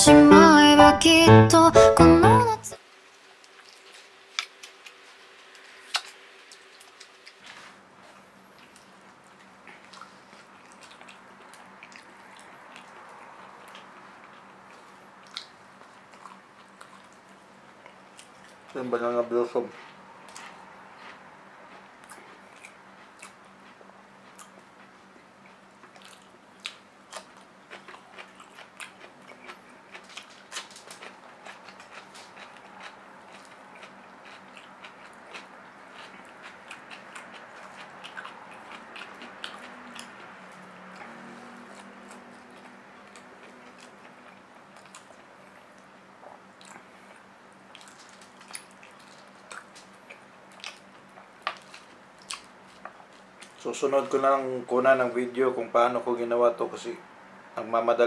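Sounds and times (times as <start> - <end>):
chewing and lip smacks: 3.4 - 18.9, 19.8 - 53.6.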